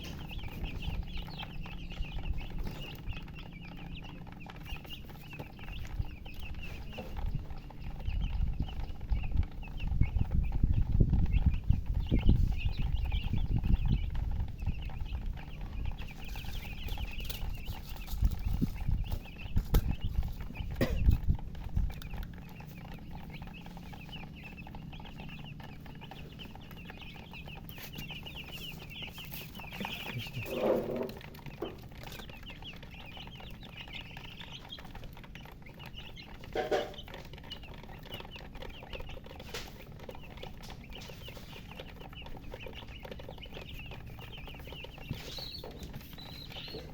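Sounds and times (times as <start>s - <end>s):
chicks cheeping: 0.0s - 46.9s
low rumbling and knocking: 0.0s - 46.9s.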